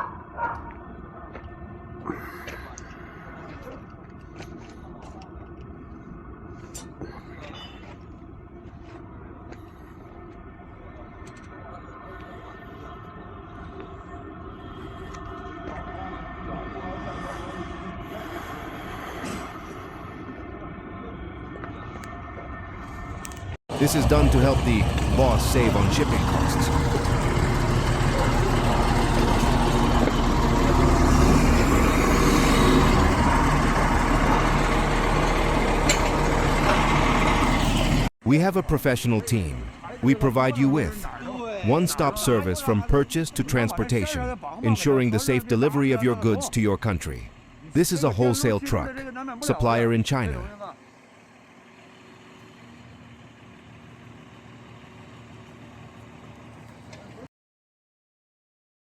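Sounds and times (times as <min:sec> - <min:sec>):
heavy vehicle engine running: 0:00.0 - 0:38.1, 0:39.0 - 0:57.3.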